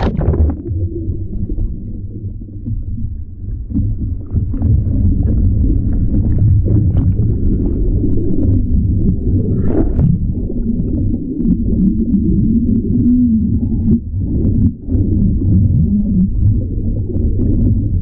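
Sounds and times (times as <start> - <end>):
bubbles ticking: 0.0 - 18.0
underwater water churning: 0.0 - 18.0.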